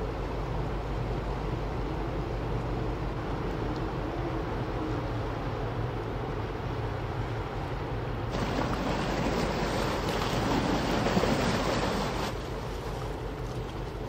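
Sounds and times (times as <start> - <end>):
rushing water: 0.0 - 14.0
ship engine drone: 0.0 - 14.0.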